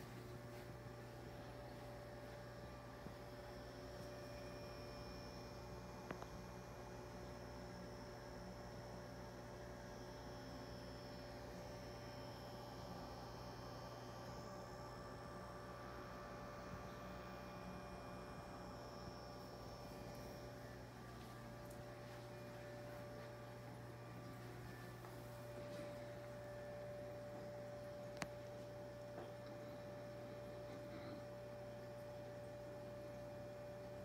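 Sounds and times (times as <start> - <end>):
faint steady tones: 0.0 - 34.0
low electrical hum: 0.0 - 34.0.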